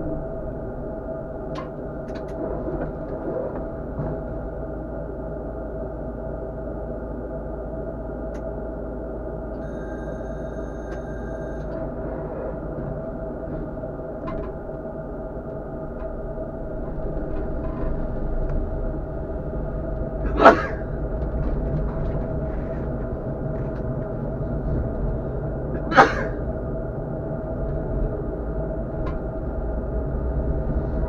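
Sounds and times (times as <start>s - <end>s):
faint hum: 0.0s - 31.0s
tram rumbling on rails: 0.0s - 31.0s.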